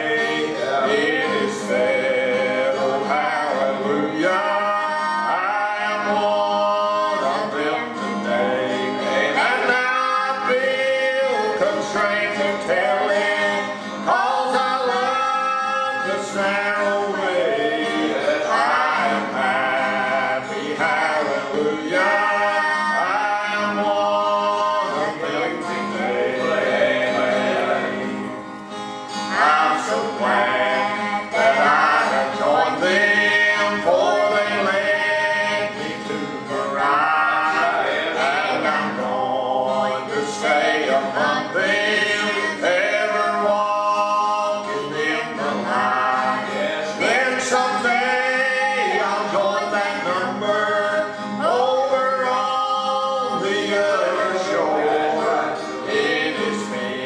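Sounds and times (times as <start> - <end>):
acoustic guitar: 0.0 - 57.0
man and woman singing duet: 0.0 - 57.0.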